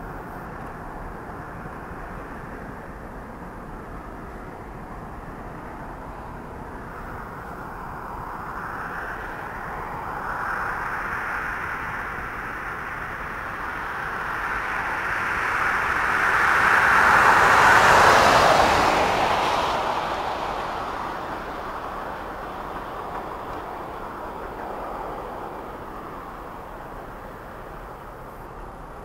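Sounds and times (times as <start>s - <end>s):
passing vehicle rushing: 0.0s - 29.0s.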